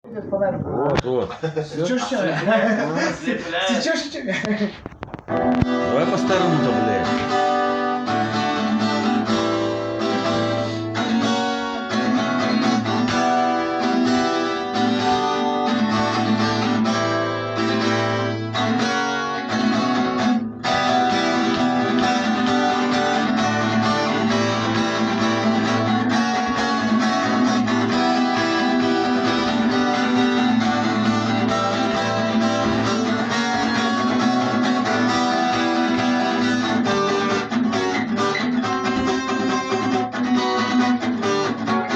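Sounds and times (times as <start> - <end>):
guitar strumming chords: 5.1 - 41.9.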